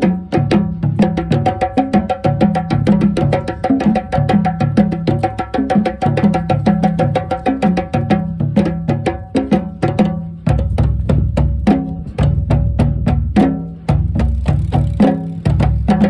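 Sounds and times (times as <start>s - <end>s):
bass drums played with sticks: 0.0s - 16.0s
djembes struck by hand: 0.0s - 16.0s.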